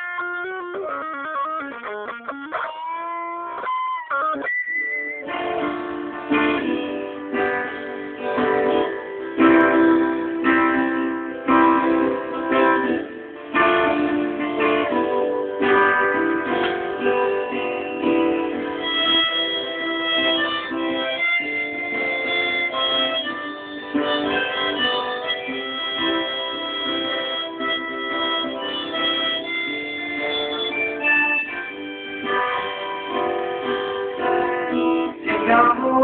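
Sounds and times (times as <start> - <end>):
long held high notes: 0.0 - 35.3
guitar strumming chords: 0.0 - 36.0.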